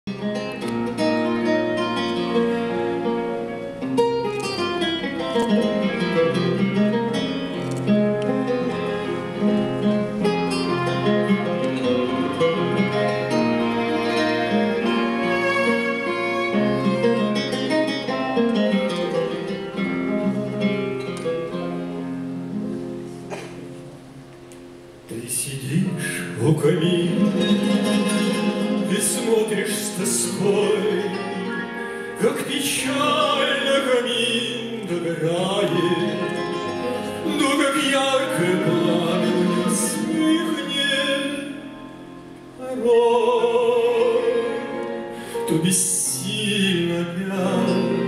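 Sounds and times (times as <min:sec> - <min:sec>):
violin: 0:00.1 - 0:23.2, 0:26.0 - 0:48.0
plucked guitar: 0:00.1 - 0:48.0.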